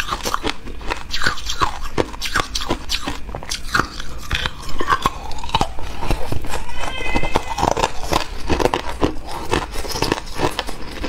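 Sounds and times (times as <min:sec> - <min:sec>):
ice crunching between teeth: 0:00.0 - 0:11.0.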